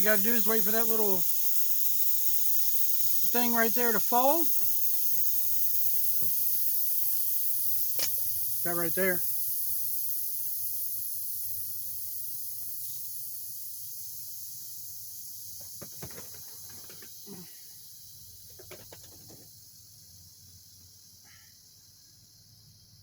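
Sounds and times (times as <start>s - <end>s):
pressure cooker venting steam: 0.0s - 19.7s.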